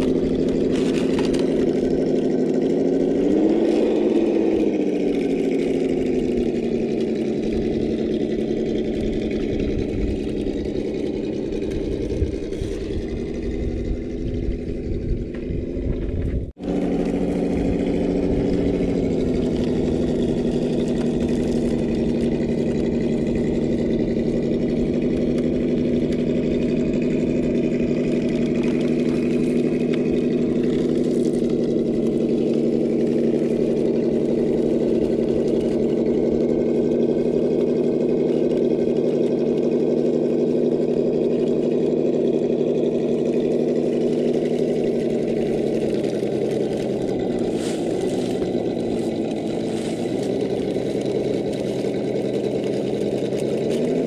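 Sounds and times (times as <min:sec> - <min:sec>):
rc car motor whining: 0:00.0 - 0:54.0.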